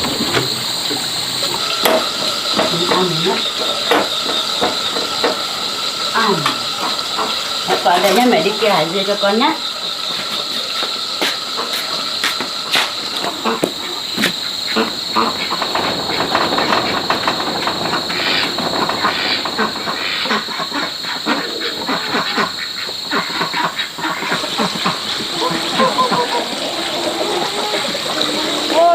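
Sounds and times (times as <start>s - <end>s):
insects humming high-pitched: 0.0s - 28.9s
rustling of leaves and brush: 0.0s - 28.9s.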